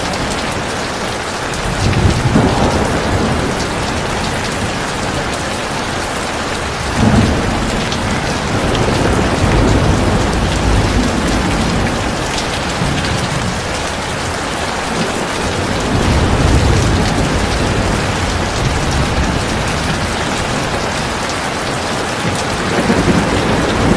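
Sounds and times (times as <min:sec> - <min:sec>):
heavy rain: 0:00.0 - 0:23.9
deep thunder rumble: 0:01.5 - 0:23.9.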